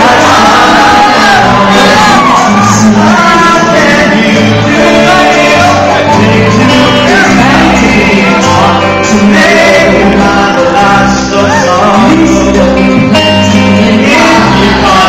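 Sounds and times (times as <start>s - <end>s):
bass guitar: 0.0s - 15.0s
drum kit: 0.0s - 15.0s
electric guitar: 0.0s - 15.0s
man singing: 0.0s - 15.0s.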